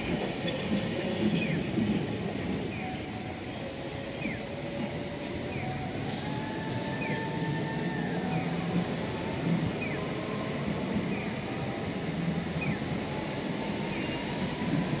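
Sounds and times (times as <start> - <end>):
distant streetcar: 0.0 - 15.0
traffic noise: 0.0 - 15.0.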